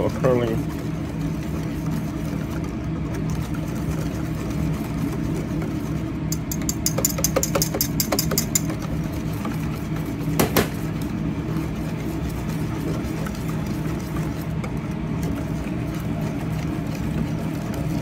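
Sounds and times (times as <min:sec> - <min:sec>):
low mechanical hum: 0:00.0 - 0:18.0
wire whisk stirring batter in bowl: 0:00.0 - 0:18.0.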